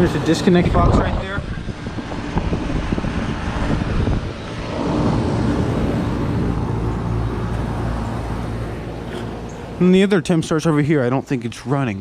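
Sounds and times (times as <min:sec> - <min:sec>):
condenser fan whoosh: 0:00.0 - 0:10.7
air conditioner compressor hum: 0:00.0 - 0:11.9.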